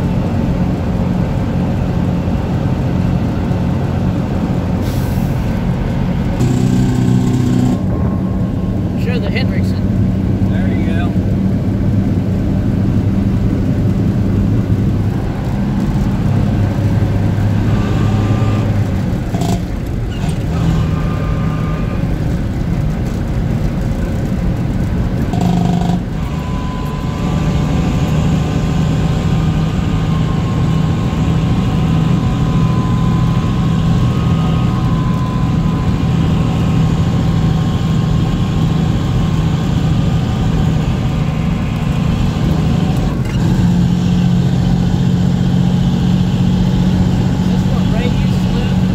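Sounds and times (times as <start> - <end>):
road noise: 0.0 - 48.9
truck diesel engine running: 0.0 - 48.9.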